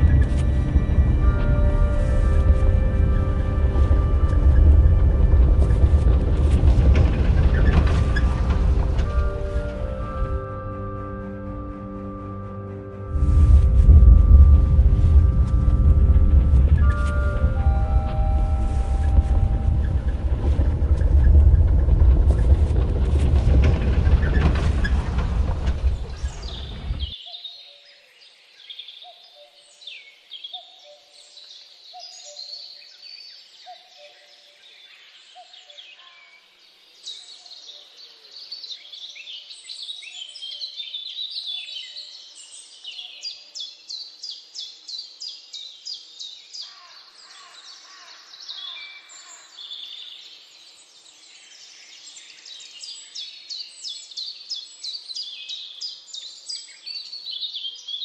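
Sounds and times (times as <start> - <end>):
birds chirping in chorus: 0.0 - 58.0.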